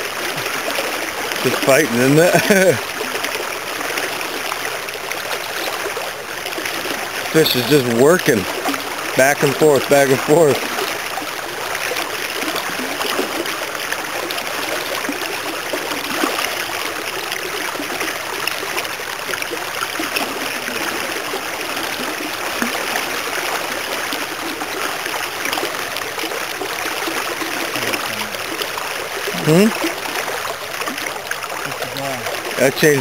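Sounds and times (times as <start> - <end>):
creek water rushing: 0.0 - 33.0.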